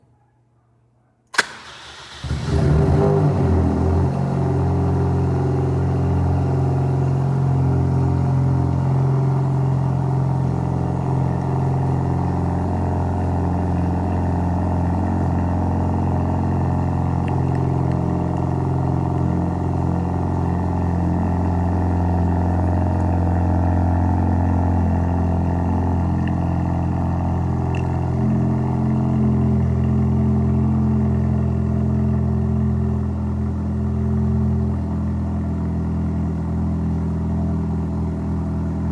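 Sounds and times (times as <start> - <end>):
car engine idling: 1.4 - 38.9.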